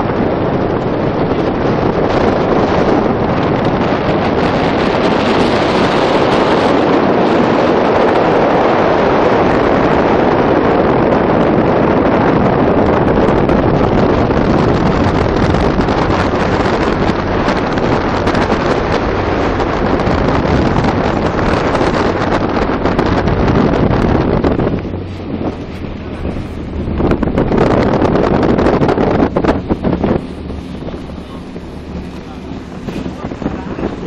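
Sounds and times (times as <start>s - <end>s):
boat engine: 0.0s - 34.0s
water noise: 0.0s - 34.0s
wind rushing over microphone: 0.0s - 34.0s.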